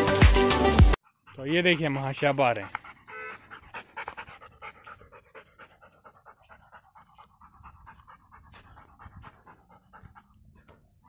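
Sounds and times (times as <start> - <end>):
dog panting fast: 1.0 - 11.0.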